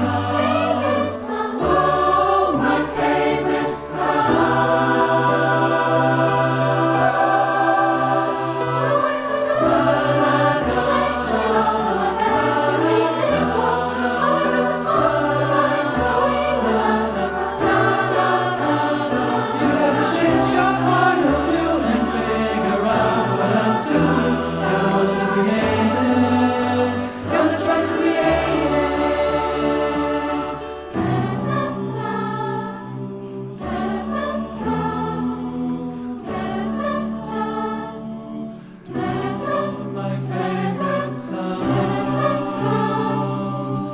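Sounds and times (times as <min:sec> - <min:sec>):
choir singing in harmony: 0:00.0 - 0:43.9
piano accompaniment: 0:00.0 - 0:43.9.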